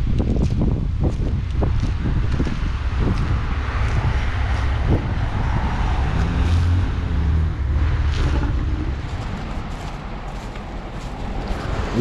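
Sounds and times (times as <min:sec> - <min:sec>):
motor vehicle engine hum: 0:00.0 - 0:12.0
traffic rumble and hiss: 0:00.0 - 0:12.0.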